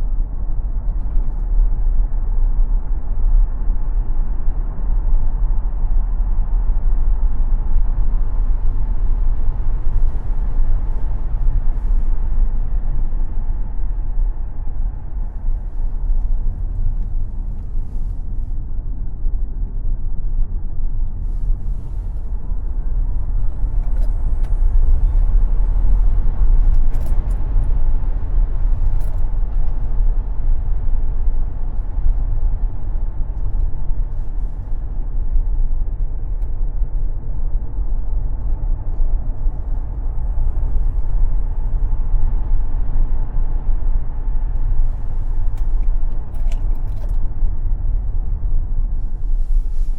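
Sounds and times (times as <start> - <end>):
faint steady whine: 0.0 - 49.9
tyre and wind noise: 0.0 - 49.9.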